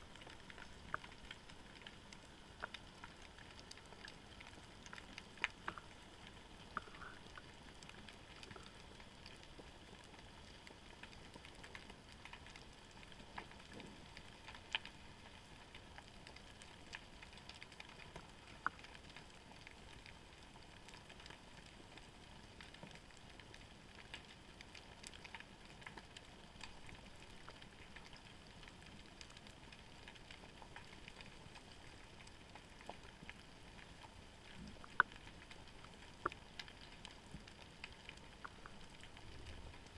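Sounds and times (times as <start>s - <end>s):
sharp clicks and crackles: 0.0s - 39.9s.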